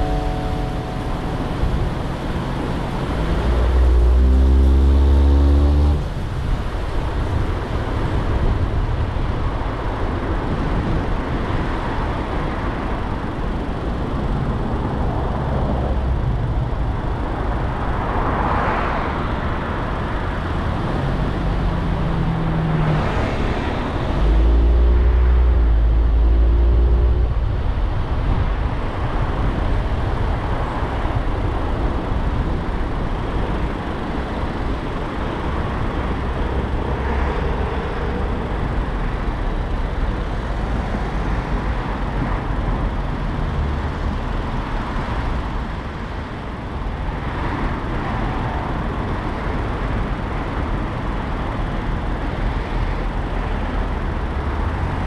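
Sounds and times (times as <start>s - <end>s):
car road and engine noise: 0.0s - 55.0s
low engine drone: 0.0s - 55.0s
vehicles passing: 0.0s - 55.0s.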